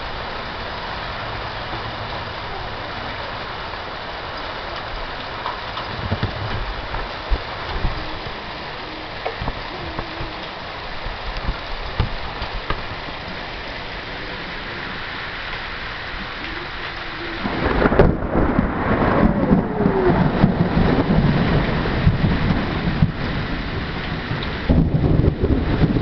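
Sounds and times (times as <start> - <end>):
steady rain falling: 0.0 - 26.0
thunderclap and rumble: 0.0 - 26.0.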